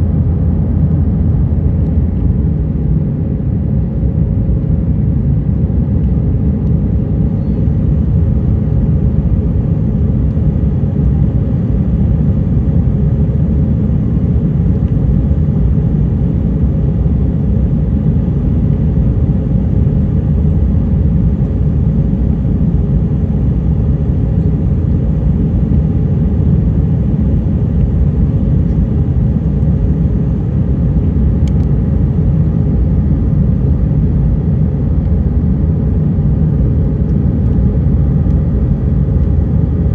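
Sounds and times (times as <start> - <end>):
faint steady hum: 0.0 - 39.9
jet engine rumble in cabin: 0.0 - 39.9.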